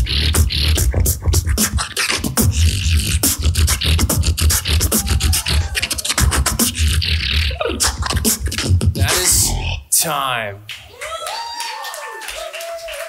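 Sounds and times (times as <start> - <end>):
vocal beatboxing: 0.0 - 10.8.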